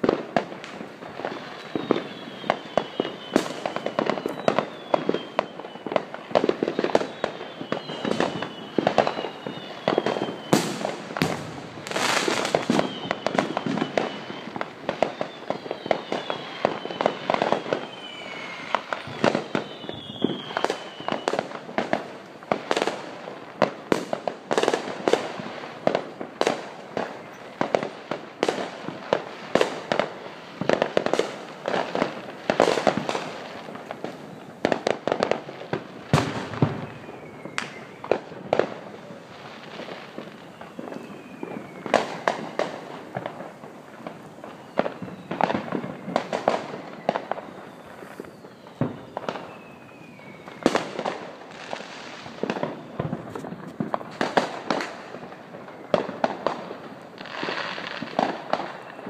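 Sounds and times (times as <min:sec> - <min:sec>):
falling firework whistles: 0:00.0 - 0:59.0
fireworks bangs and pops: 0:00.0 - 0:59.0.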